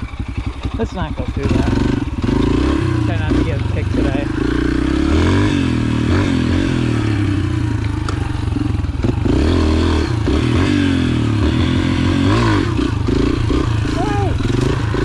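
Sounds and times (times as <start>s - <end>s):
clatter: 0.0s - 15.0s
motorbike engine revving: 0.0s - 15.0s.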